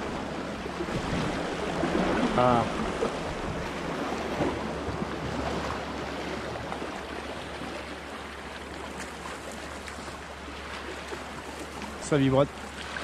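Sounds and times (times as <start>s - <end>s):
waves lapping over rocks: 0.0s - 13.0s.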